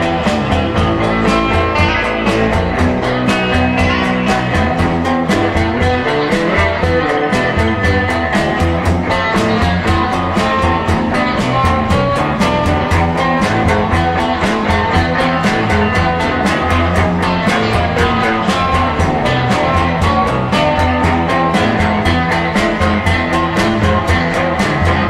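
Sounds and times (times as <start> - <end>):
bass and drums fast beat: 0.0 - 25.0
electric guitar: 0.0 - 25.0.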